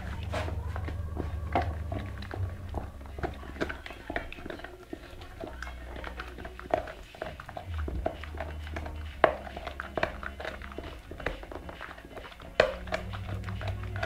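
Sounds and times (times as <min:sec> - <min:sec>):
dog gnawing and crunching bone: 0:00.0 - 0:14.0.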